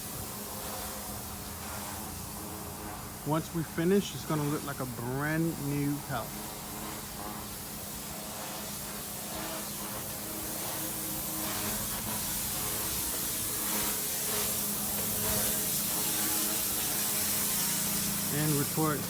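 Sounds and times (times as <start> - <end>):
washer motor and pump humming: 0.0 - 19.0
water jet hissing: 0.0 - 19.0.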